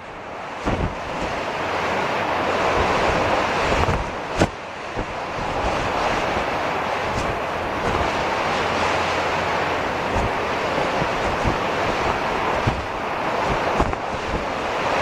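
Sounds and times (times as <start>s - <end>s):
breaking surf: 0.0s - 15.0s
wind buffeting microphone: 0.0s - 15.0s.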